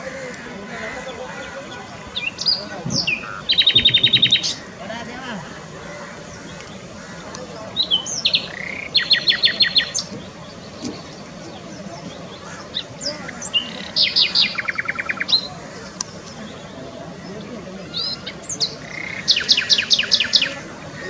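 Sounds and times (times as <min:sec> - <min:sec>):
birds calling high notes: 0:00.0 - 0:21.0
bird chirps: 0:01.0 - 0:04.7, 0:06.4 - 0:15.6, 0:16.4 - 0:20.7.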